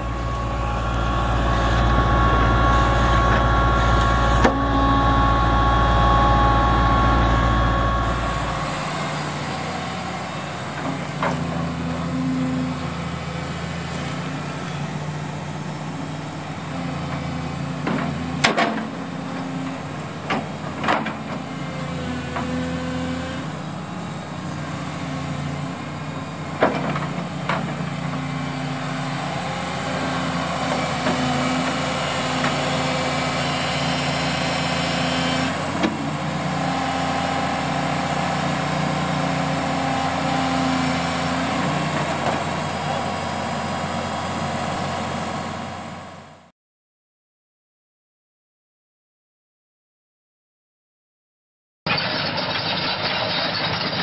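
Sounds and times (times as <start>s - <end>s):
excavator diesel engine running: 0.0s - 46.5s, 51.9s - 54.0s.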